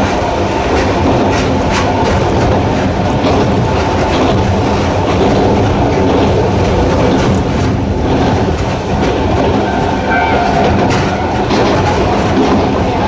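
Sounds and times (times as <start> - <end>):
electric train rumbling: 0.0 - 13.0
wheels clicking over rail joints: 0.0 - 13.0.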